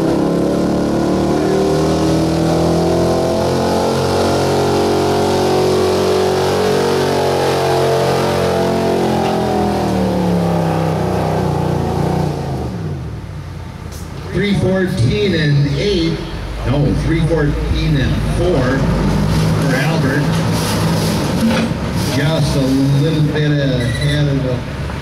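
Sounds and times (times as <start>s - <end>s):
truck engine at full throttle: 0.0s - 25.0s.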